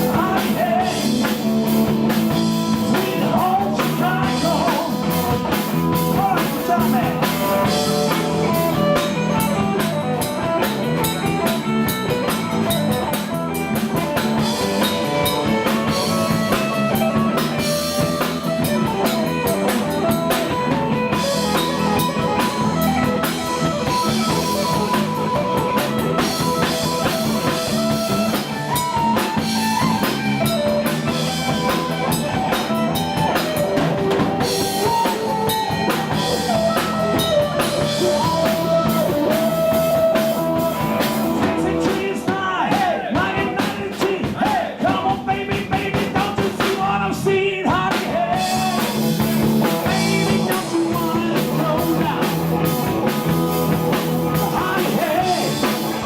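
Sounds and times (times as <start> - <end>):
live blues rock band: 0.0 - 56.0.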